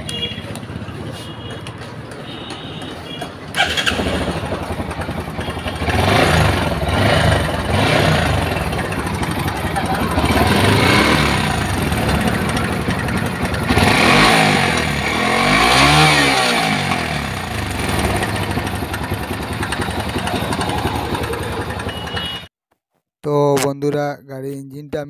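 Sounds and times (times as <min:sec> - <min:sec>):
motorcycle engine revving: 0:00.1 - 0:22.5.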